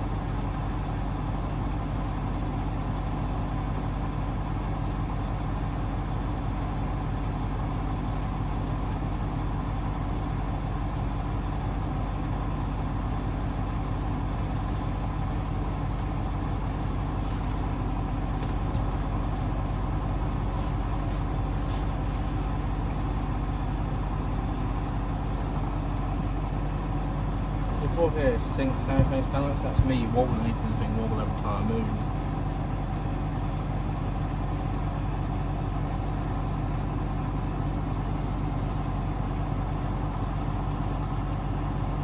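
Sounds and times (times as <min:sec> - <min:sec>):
washing machine spinning hum: 0:00.0 - 0:42.0.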